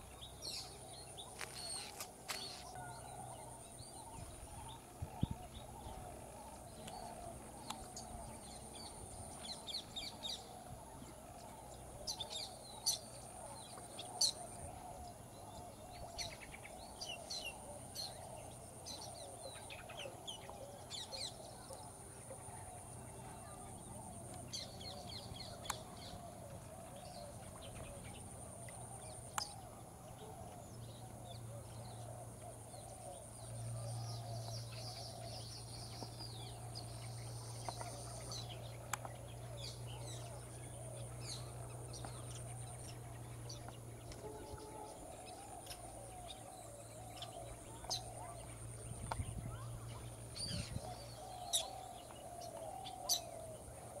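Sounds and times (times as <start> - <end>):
birds calling and chirping: 0.0 - 54.0.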